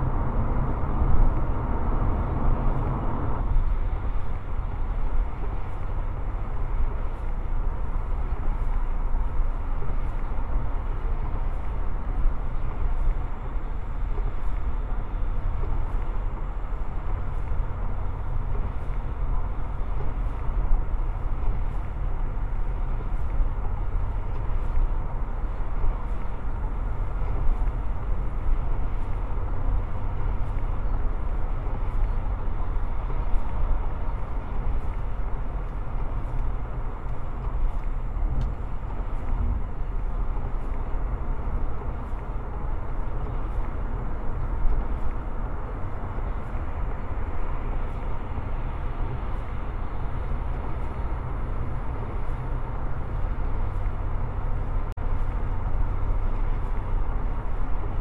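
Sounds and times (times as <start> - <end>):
car engine running: 0.0 - 58.0
deep road rumble: 0.0 - 58.0.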